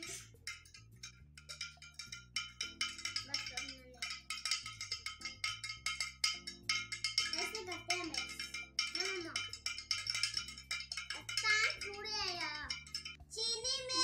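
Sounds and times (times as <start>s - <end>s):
spoon clinking against glass: 0.0s - 13.2s.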